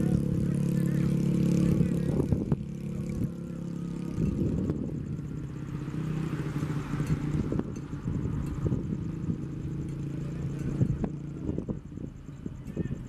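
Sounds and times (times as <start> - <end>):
heavy diesel engine running: 0.0 - 12.6.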